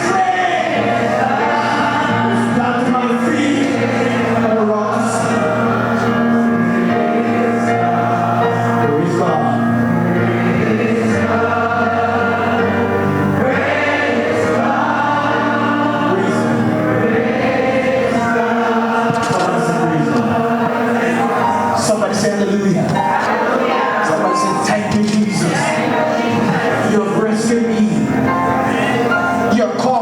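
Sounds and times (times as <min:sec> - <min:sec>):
gospel choir singing: 0:00.0 - 0:30.0
sustained accompaniment: 0:00.0 - 0:30.0.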